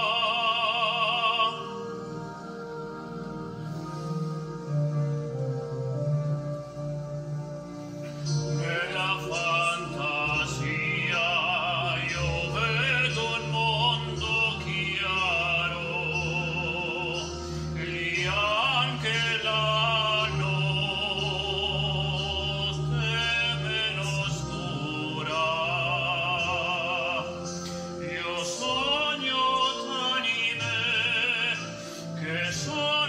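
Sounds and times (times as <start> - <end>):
man singing operatically: 0.0 - 2.0, 8.5 - 33.0
soft musical accompaniment: 0.0 - 33.0.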